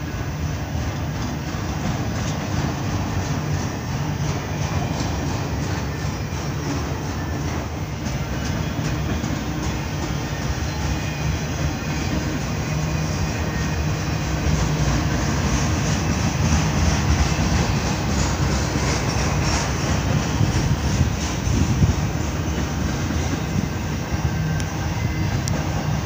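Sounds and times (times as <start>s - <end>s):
freight train wheels rumbling: 0.0s - 26.0s
rail clicks: 0.0s - 26.0s.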